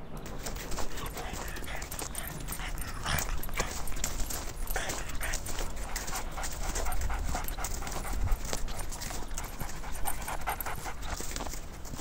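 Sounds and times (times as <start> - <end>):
dog panting: 0.2 - 12.0.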